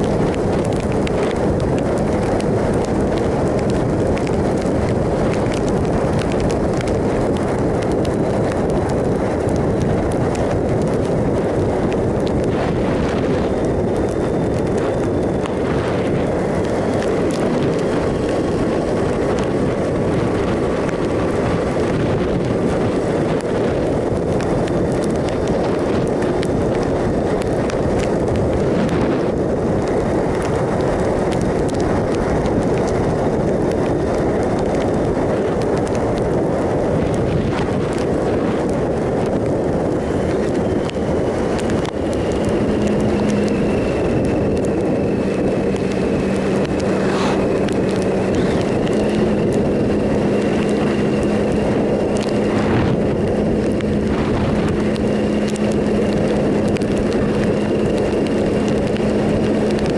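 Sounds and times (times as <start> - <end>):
motorcycle engine drone: 0.0 - 59.9
wind rushing on microphone: 0.0 - 59.9.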